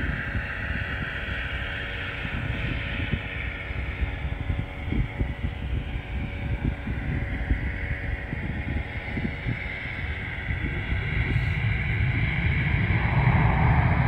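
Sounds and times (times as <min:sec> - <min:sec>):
distant jet engines whining: 0:00.0 - 0:14.0
wind buffeting microphone: 0:00.0 - 0:14.0.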